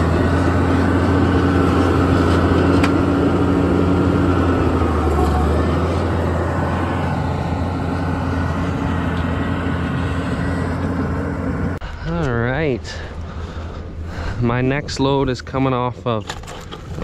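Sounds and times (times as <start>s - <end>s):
road noise: 0.0s - 17.0s
truck engine hum: 0.0s - 17.0s.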